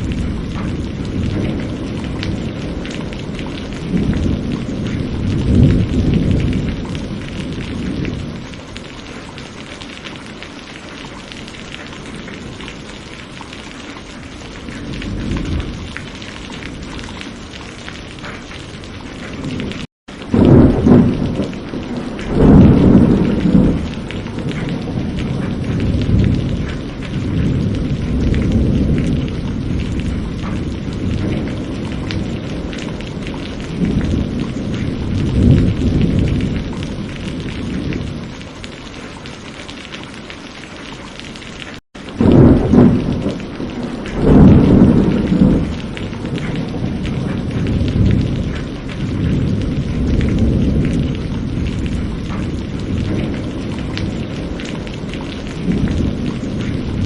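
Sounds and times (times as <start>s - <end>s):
low rolls of thunder: 0.0s - 8.7s, 14.2s - 38.5s, 42.0s - 57.0s
steady rain: 0.0s - 57.0s.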